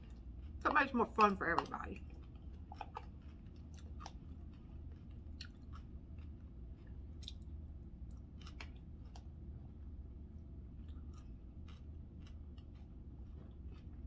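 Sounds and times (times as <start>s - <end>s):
low steady hum: 0.0s - 14.0s
person chewing food: 0.0s - 14.0s.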